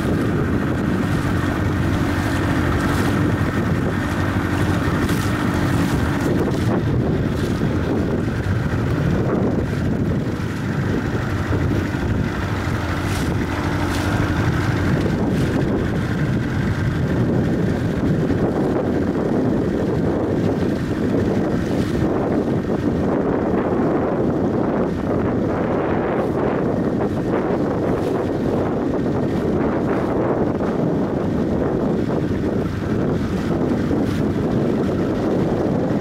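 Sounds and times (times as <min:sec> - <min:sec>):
outboard motor humming: 0:00.0 - 0:36.0
water splashing along a hull: 0:00.0 - 0:36.0
wind buffeting the microphone: 0:00.0 - 0:36.0.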